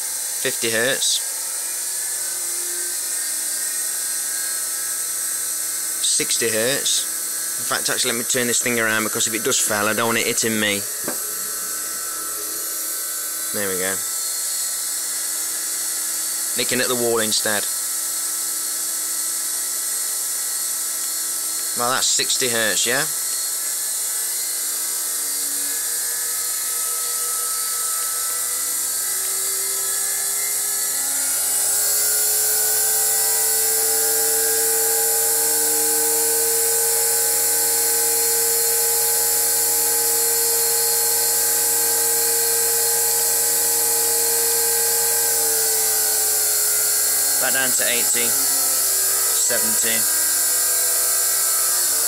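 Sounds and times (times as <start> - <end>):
bench grinder motor whine: 0.0 - 52.0.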